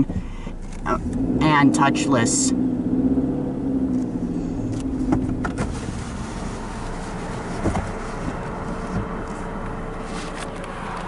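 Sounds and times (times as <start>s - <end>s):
car engine hum from inside cabin: 0.0s - 11.0s.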